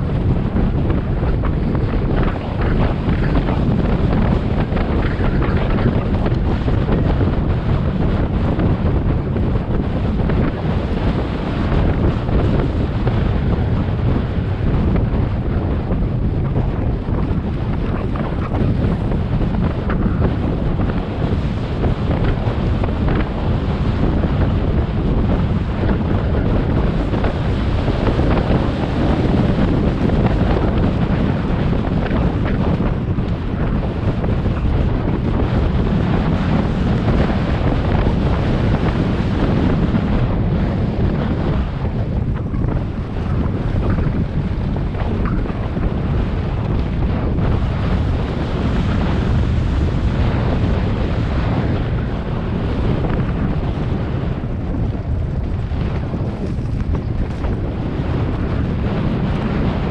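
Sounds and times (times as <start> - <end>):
tyres rumbling on dirt trail: 0.0 - 59.9
wind buffeting microphone: 0.0 - 59.9.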